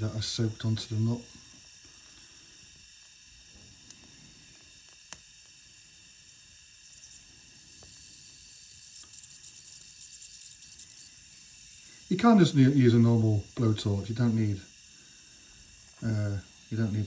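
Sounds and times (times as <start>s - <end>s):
faint steady hiss: 0.0s - 17.0s
heated nut sizzling: 0.0s - 17.0s.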